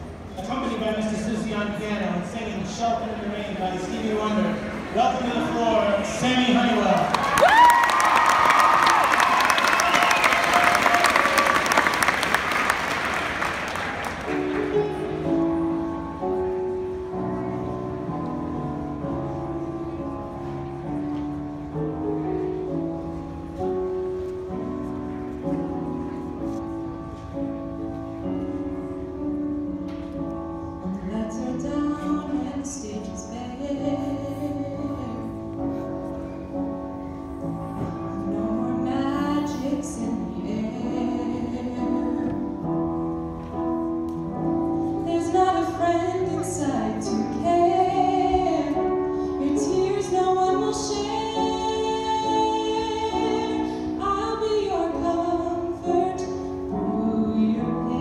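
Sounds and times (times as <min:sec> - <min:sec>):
piano chords: 0:00.0 - 0:58.0.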